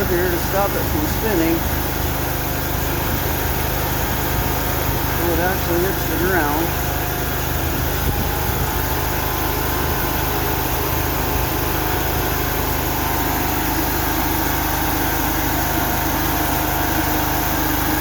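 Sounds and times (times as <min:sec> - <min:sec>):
skid steer engine idling: 0:00.0 - 0:18.0.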